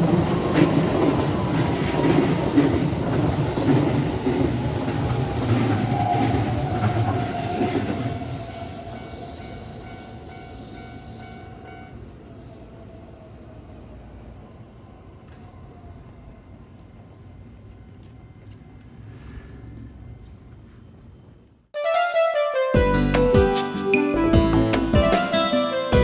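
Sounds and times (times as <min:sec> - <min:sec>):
train rumbling past: 0:00.0 - 0:21.7.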